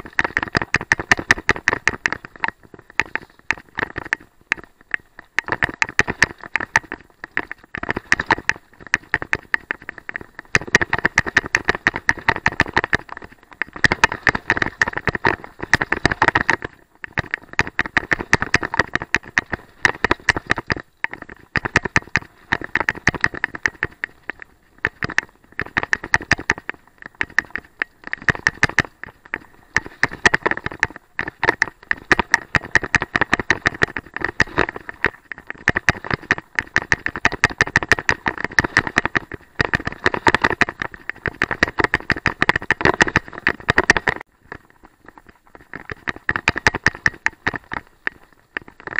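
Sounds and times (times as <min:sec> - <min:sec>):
bike clicking and rattling: 0:00.0 - 0:48.9.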